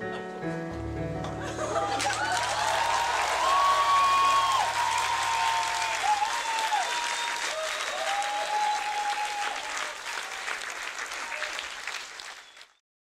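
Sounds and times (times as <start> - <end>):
audience applauding: 1.6 - 12.8.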